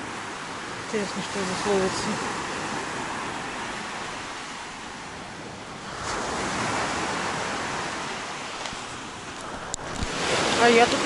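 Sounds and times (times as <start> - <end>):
waves breaking on pebble beach: 0.0 - 11.0.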